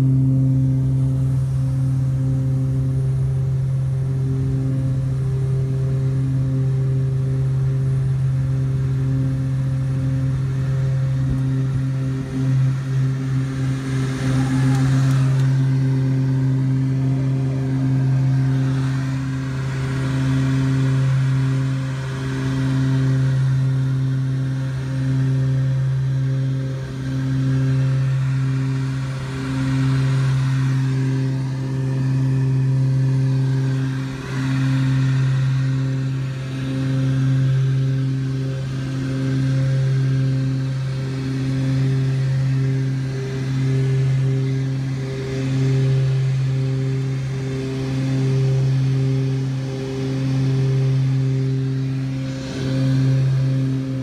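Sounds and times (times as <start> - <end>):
propeller drone: 0.0 - 54.0.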